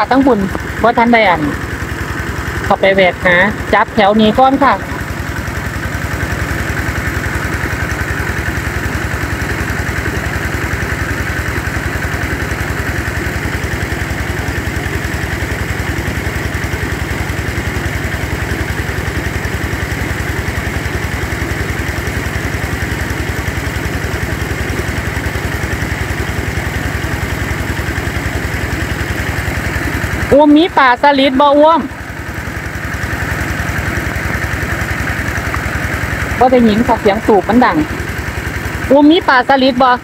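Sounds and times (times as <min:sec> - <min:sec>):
engine-driven water pump running: 0:00.0 - 0:40.0.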